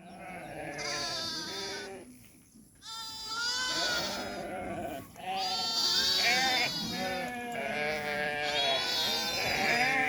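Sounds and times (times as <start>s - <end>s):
sheep bleating: 0.2s - 2.0s, 2.8s - 10.0s.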